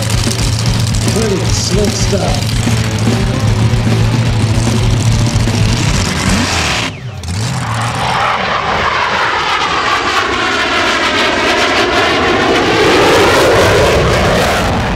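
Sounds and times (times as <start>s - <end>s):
aircraft passing overhead: 0.0s - 14.9s.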